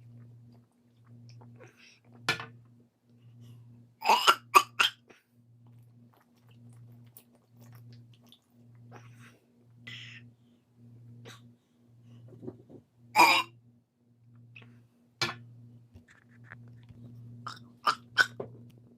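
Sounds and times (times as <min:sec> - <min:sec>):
faint low pulsing hum: 0:00.0 - 0:18.9.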